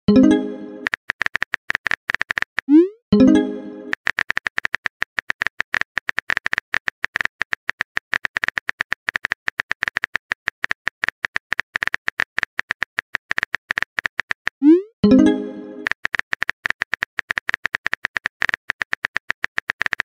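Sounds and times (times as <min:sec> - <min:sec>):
keyboard typing clicks: 0:00.1 - 0:20.0.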